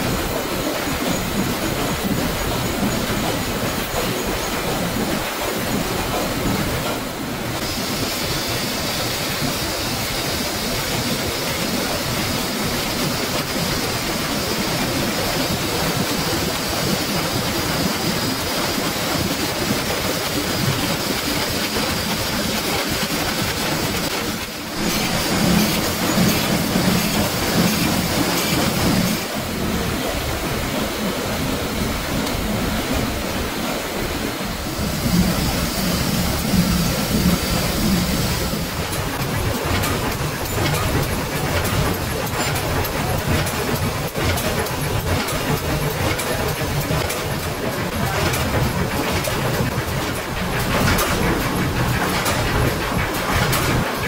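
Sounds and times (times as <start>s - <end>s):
printing press clattering: 0.0s - 54.0s.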